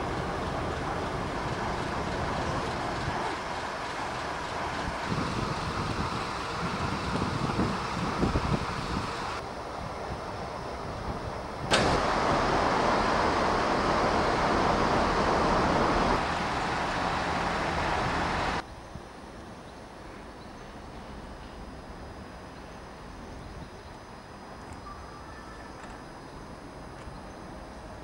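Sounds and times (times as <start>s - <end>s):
diesel railcar running: 0.0s - 28.0s.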